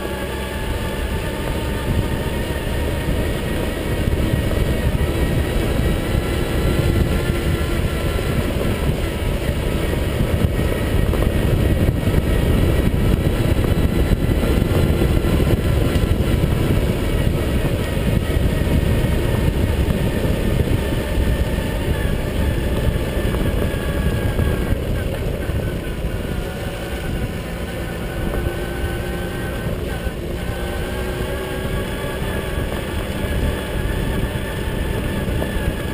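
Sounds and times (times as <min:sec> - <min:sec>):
moped engine running: 0:00.0 - 0:35.9
wind rumbling on microphone: 0:00.0 - 0:35.9.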